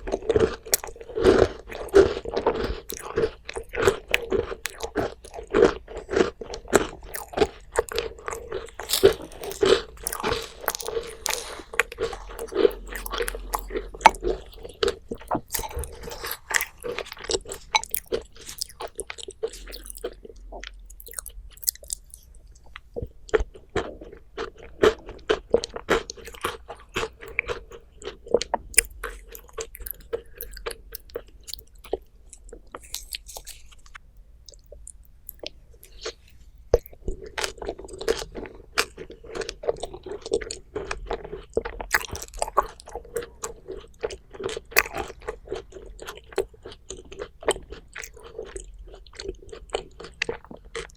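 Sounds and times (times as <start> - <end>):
crunchy food chewing: 0.0 - 50.9.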